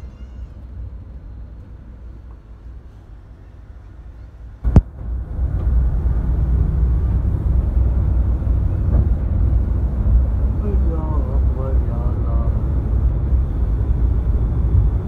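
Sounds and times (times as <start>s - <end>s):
coach engine and tyres rumbling: 0.0s - 15.0s.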